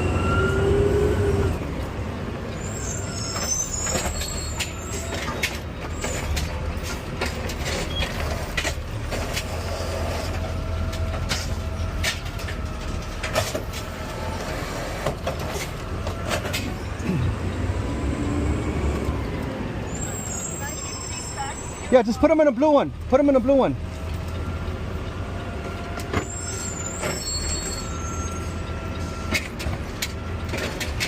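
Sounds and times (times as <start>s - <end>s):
truck engine rumbling: 0.0s - 31.0s.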